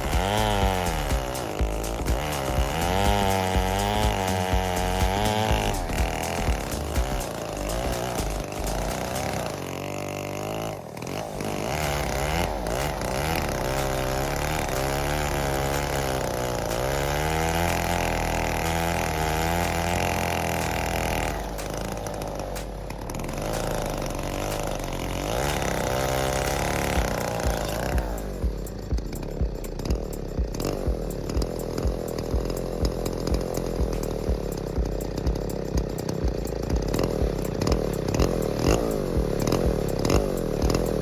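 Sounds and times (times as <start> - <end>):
chainsaw running: 0.0 - 41.0.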